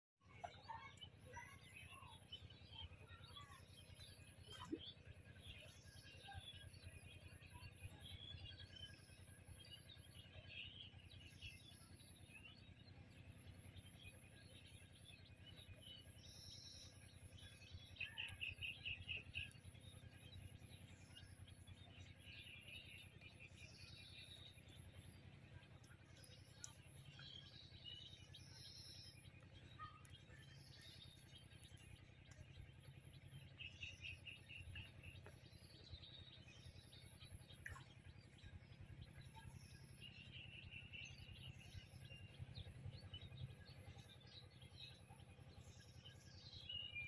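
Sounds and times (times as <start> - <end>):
small birds chirping: 0.3 - 47.0.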